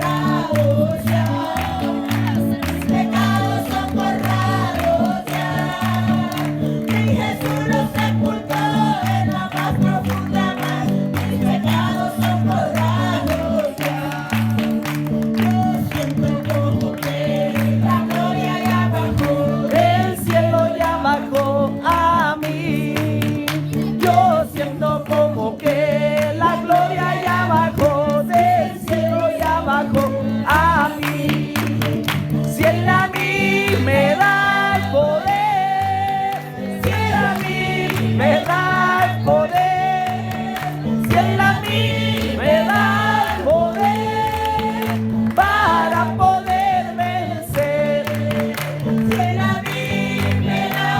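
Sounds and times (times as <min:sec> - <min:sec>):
group singing a chorus: 0:00.0 - 0:14.8, 0:15.4 - 0:23.5, 0:24.8 - 0:50.9.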